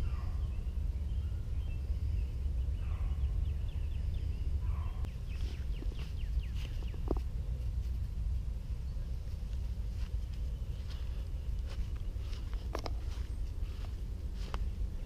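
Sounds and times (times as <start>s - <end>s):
birds chirping: 0.0s - 15.0s
low rumble: 0.0s - 15.0s.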